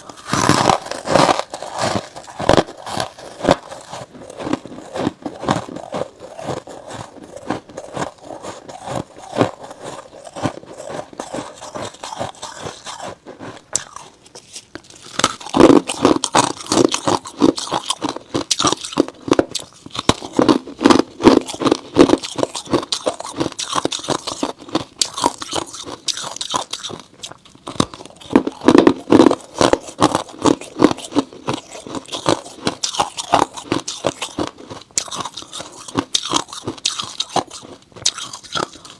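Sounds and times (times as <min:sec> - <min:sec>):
crunching frost being chewed: 0:00.0 - 0:38.9.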